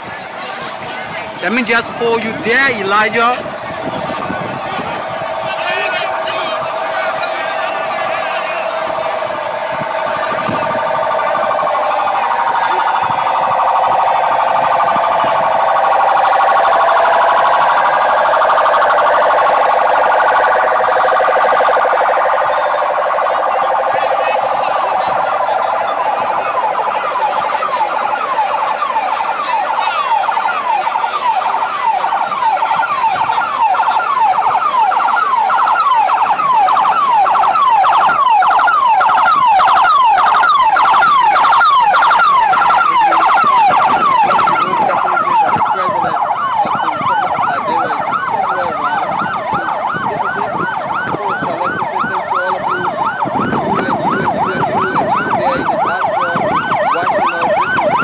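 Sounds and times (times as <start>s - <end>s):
sirens yelping: 0.0s - 58.0s.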